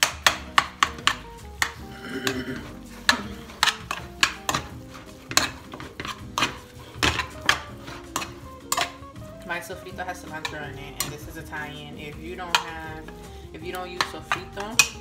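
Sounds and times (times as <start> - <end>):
metal utensil knocking on pot: 0.0 - 9.0, 10.0 - 15.0.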